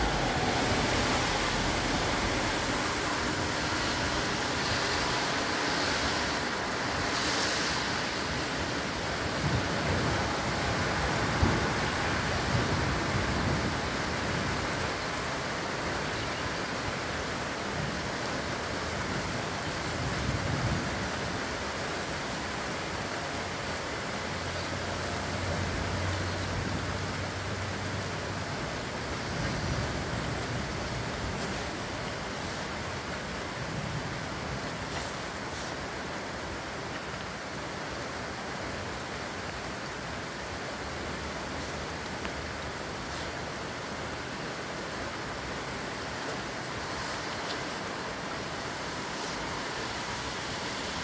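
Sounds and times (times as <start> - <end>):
rain: 0.0 - 51.0
wind: 0.0 - 51.0.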